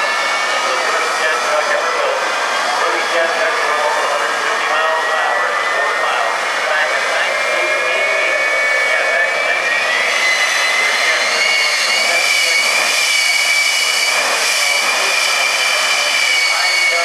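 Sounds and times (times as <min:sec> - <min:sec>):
jet turbine engine whining: 0:00.0 - 0:17.0.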